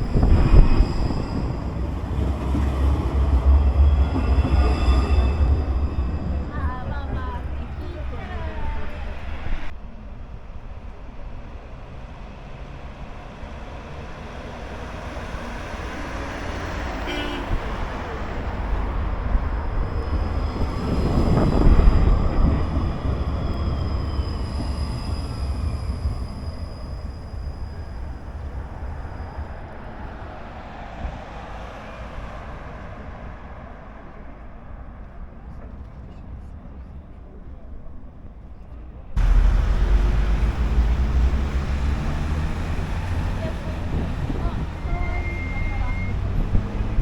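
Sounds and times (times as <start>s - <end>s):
tram rumbling past: 0.0s - 47.0s.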